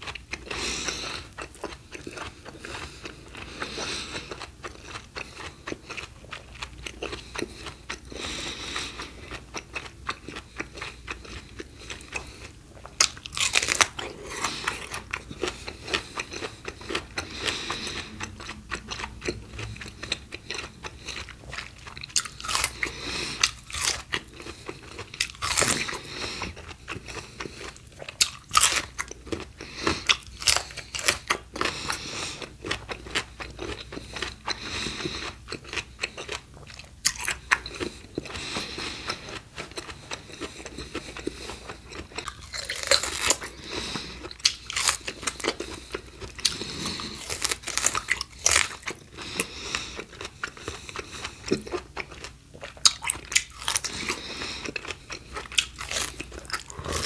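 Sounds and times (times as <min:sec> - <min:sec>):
crunchy biting and chewing: 0:00.0 - 0:57.0.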